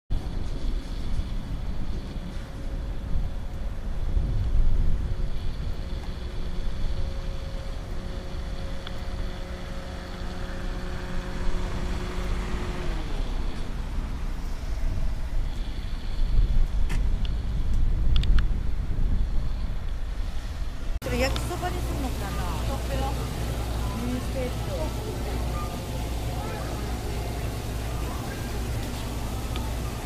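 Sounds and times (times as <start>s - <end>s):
constant low rumble: 0.1s - 30.0s
vehicle engine humming: 0.1s - 30.0s.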